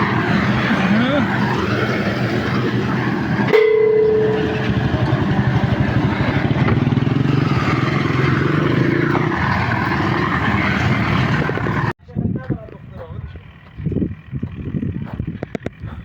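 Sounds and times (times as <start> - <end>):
combustion engine running: 0.0 - 12.0, 12.6 - 16.0.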